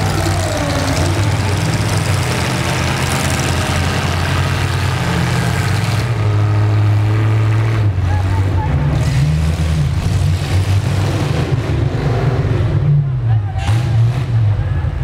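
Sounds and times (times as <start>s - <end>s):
truck engines droning: 0.0s - 15.0s.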